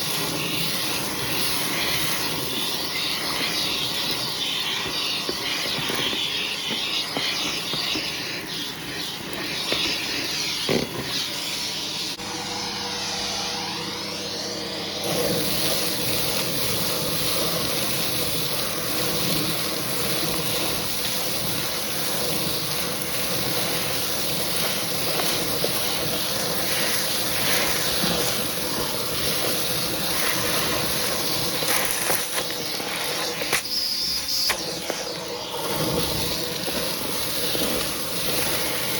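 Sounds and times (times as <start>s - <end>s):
steady hum: 0.0s - 38.9s
vacuum cleaner on a rug: 0.0s - 38.9s.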